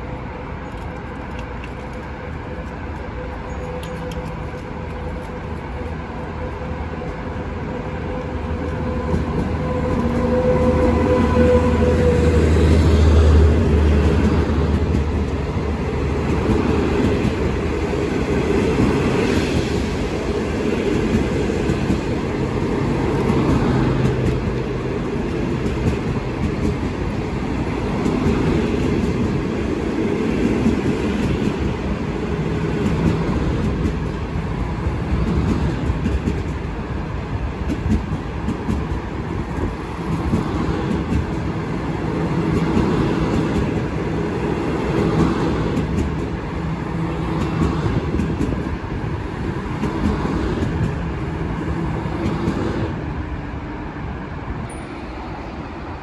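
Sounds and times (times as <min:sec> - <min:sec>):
train passing: 0:00.0 - 0:56.0.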